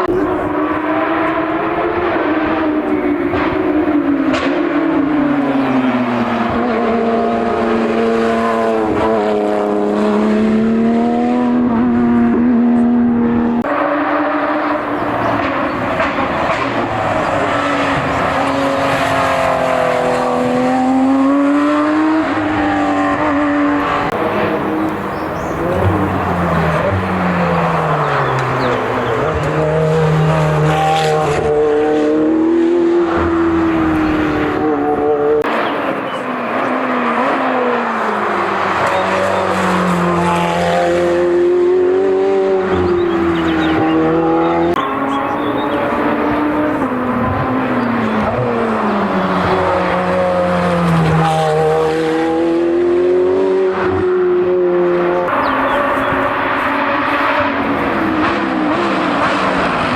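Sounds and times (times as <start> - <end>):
racing car engine changing gear: 0.0 - 59.9.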